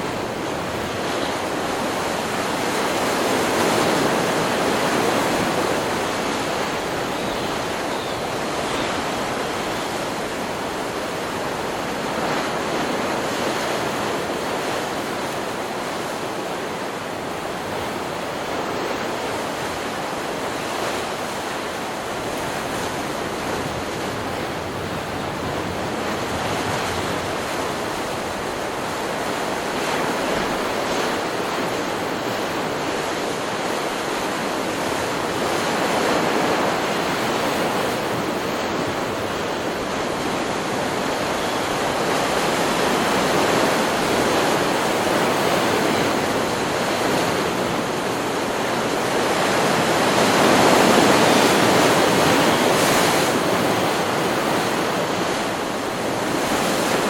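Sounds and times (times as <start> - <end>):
ocean waves breaking: 0.0 - 57.0.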